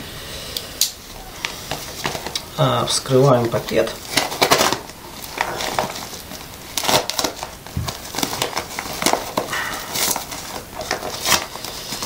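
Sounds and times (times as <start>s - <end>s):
packet wrapping tearing: 1.4s - 12.0s.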